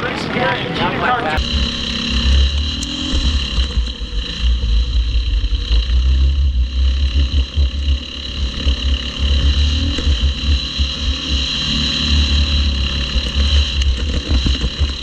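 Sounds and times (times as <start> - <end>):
race car engines droning: 0.0 - 15.0
heavy low rumble: 1.3 - 15.0.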